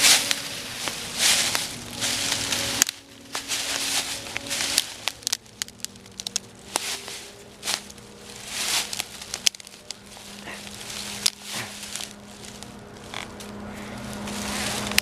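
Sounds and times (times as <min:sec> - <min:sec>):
dry leaves rustling: 0:00.0 - 0:15.0
twigs snapping: 0:00.0 - 0:15.0.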